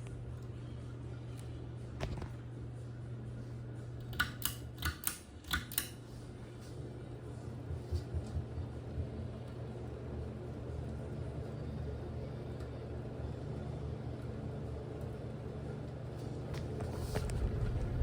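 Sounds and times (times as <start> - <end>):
ceiling fan motor hum: 0.0 - 18.0.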